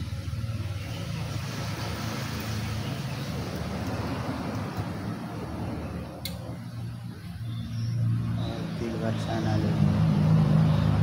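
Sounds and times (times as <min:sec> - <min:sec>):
low engine hum: 0:00.0 - 0:11.0
vehicles passing: 0:00.0 - 0:11.0.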